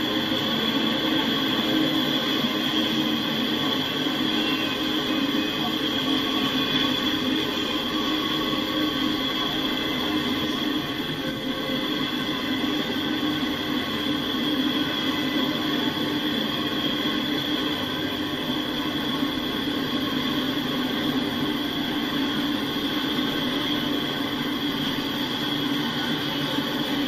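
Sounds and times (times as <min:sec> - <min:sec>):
steel wheels on rails: 0:00.0 - 0:27.0.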